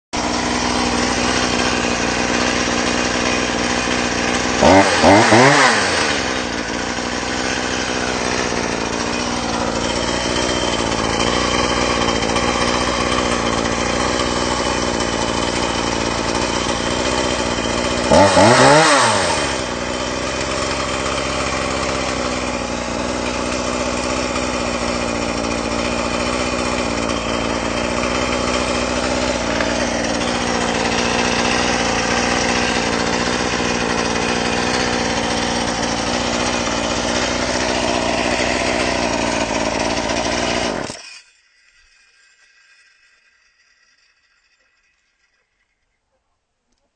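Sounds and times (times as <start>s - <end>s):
chainsaw engine idling and revving: 0.2s - 41.2s.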